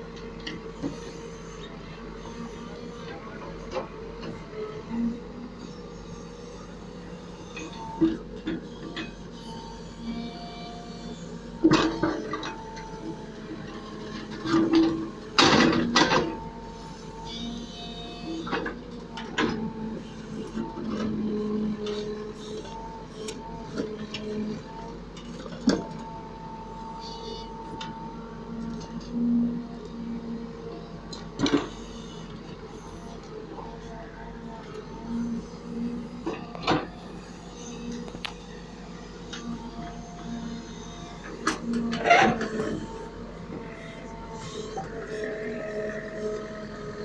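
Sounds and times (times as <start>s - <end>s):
backhoe engine running: 0.0s - 47.0s.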